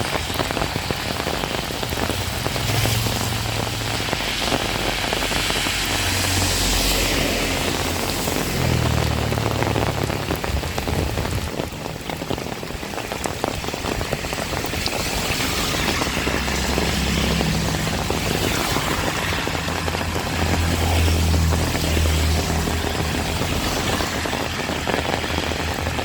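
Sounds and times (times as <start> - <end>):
heavy rain pouring: 0.0 - 26.0
low rumble: 1.6 - 24.6.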